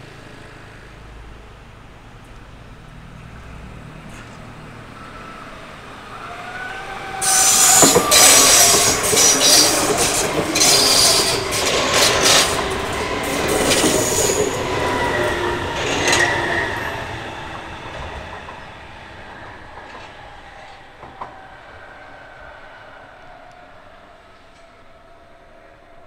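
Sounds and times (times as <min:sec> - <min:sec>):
electric train passing: 0:00.0 - 0:26.0
wheels clacking over rail joints: 0:04.1 - 0:25.0
high wheel squeal: 0:04.7 - 0:26.0.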